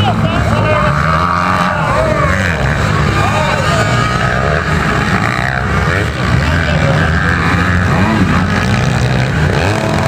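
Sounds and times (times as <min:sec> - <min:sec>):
dirt bike engines racing: 0:00.0 - 0:10.0.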